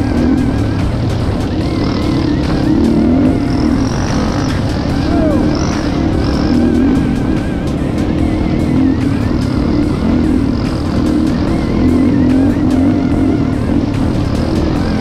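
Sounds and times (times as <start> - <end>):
atv engine running: 0.0 - 15.0
background music with a beat: 0.0 - 15.0.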